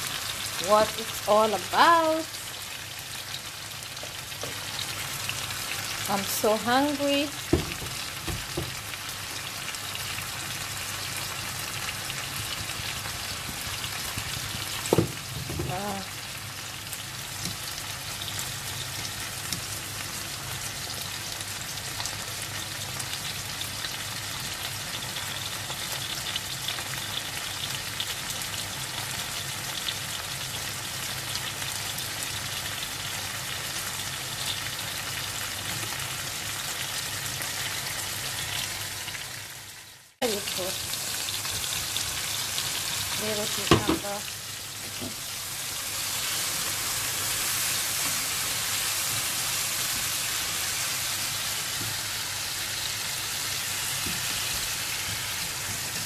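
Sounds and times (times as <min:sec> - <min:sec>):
vegetables sizzling in a frying pan: 0:00.0 - 0:56.0.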